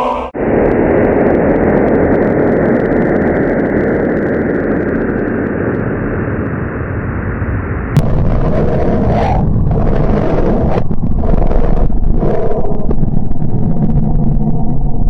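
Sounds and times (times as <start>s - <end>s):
low rumble: 0.0s - 15.0s
dense rushing noise: 0.4s - 15.0s.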